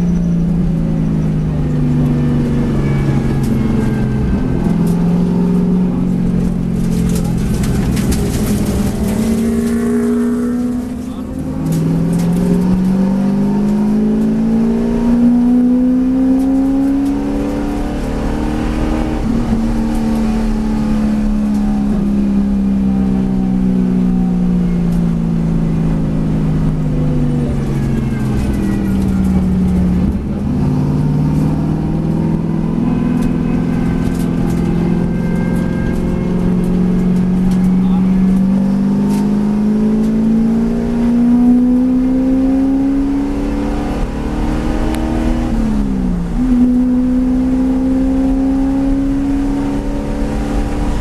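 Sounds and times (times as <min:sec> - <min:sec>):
race car engine under load: 0:00.0 - 0:51.0.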